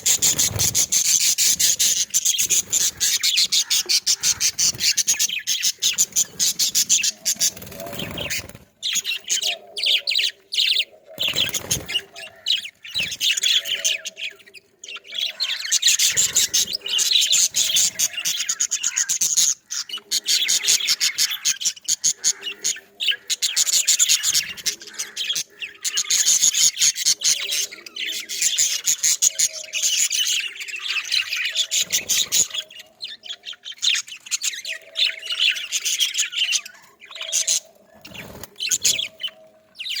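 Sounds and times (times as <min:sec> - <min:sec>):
budgerigars chattering and chirping: 0:00.0 - 0:40.0.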